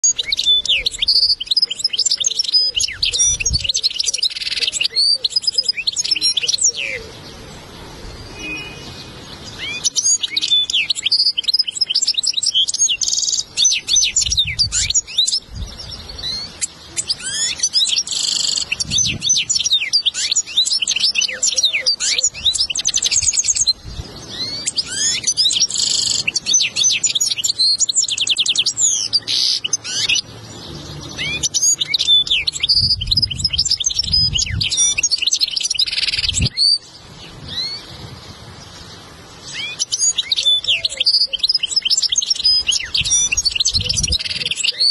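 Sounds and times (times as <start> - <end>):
goldfinch twittering song: 0.0 - 44.9.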